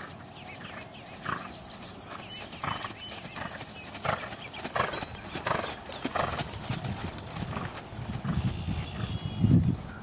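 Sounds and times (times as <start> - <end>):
horse hooves thudding on grass: 0.0 - 9.8.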